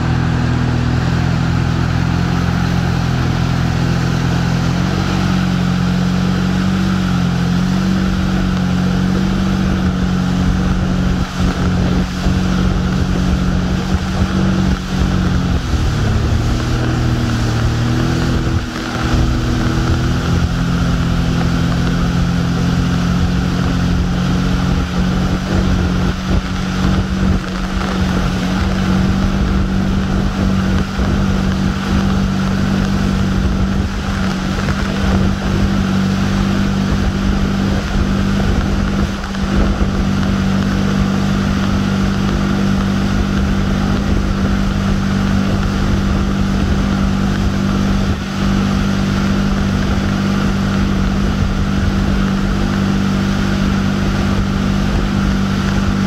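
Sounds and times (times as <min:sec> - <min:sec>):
churning boat wake: 0:00.0 - 0:56.0
motorboat engine running: 0:00.0 - 0:56.0.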